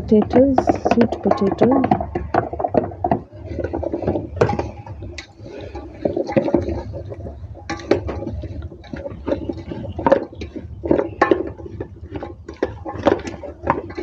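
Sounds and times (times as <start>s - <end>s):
wooden spoon stirring in pot: 0.0s - 14.0s.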